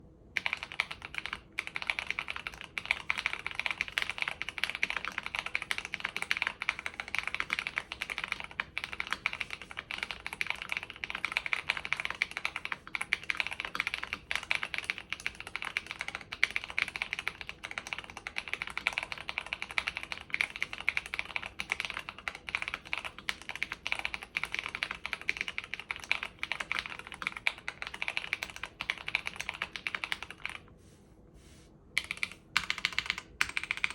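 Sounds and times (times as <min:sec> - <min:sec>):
mechanical keyboard typing: 0:00.4 - 0:30.6, 0:32.0 - 0:33.9.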